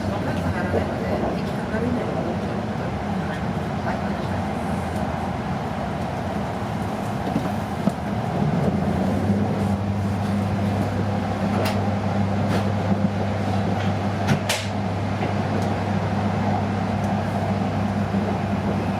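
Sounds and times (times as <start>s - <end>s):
train cabin rumble: 0.0s - 18.9s.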